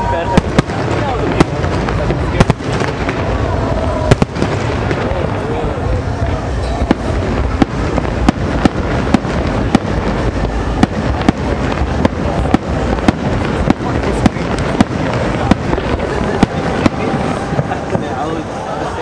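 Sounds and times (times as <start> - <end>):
low rumble of fireworks: 0.0 - 19.0.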